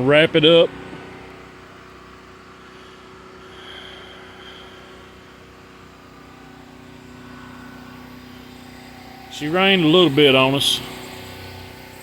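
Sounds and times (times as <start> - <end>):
faint mechanical hum: 0.0 - 12.0.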